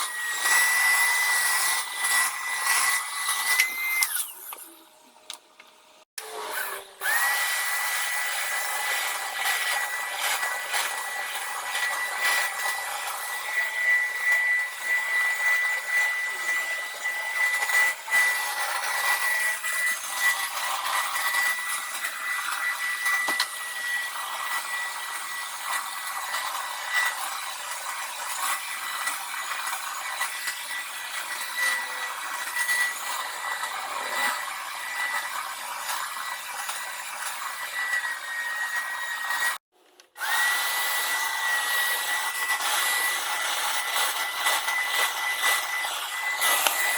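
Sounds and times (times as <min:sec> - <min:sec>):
carpet washer motor whine: 0:00.0 - 0:39.6, 0:40.2 - 0:46.9.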